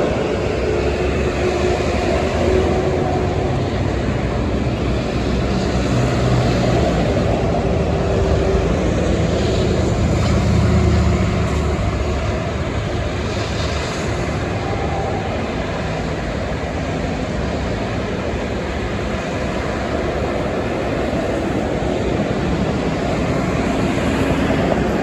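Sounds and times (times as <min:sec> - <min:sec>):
diesel truck engines rumbling: 0:00.0 - 0:25.0
tyres rushing on highway: 0:00.0 - 0:25.0.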